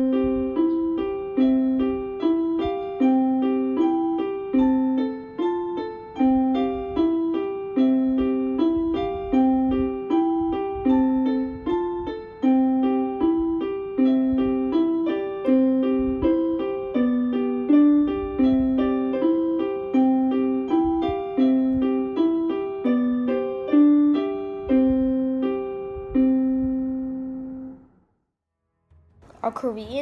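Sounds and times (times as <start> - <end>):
electronic keyboard piano tune: 0.0 - 28.0.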